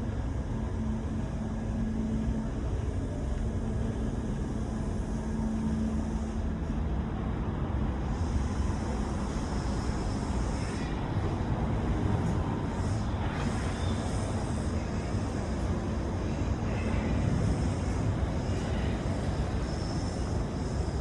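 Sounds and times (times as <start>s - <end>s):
constant rushing noise: 0.0s - 21.0s.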